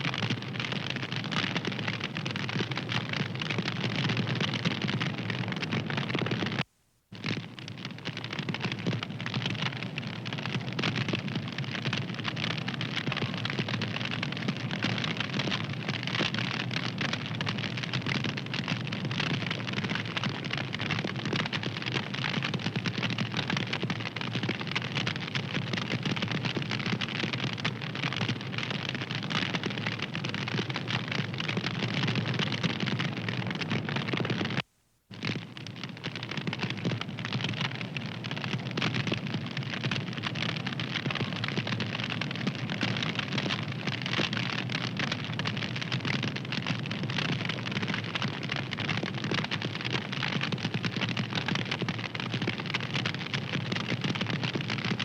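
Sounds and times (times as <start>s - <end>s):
wood fire crackling: 7.2s - 54.7s.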